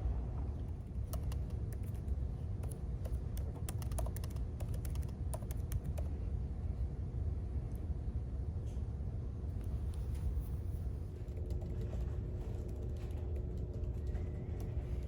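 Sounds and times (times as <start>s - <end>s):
low room noise rumble: 0.0s - 15.0s.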